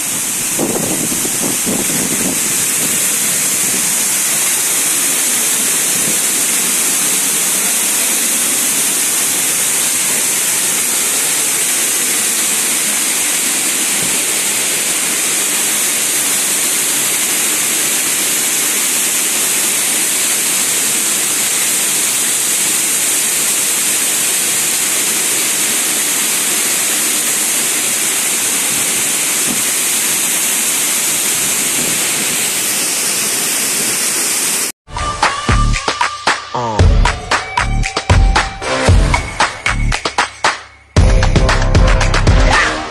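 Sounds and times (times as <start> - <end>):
waterfall splashing onto rocks: 0.0 - 36.5.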